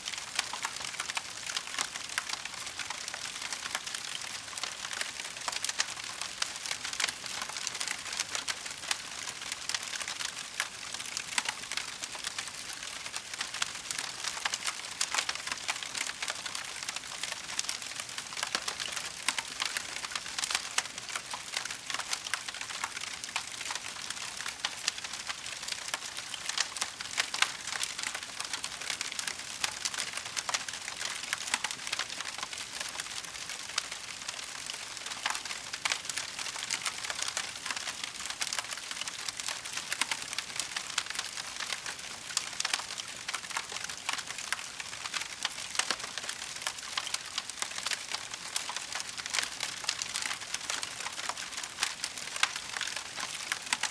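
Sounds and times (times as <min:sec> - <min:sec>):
wood fire crackling: 0:00.1 - 0:53.9.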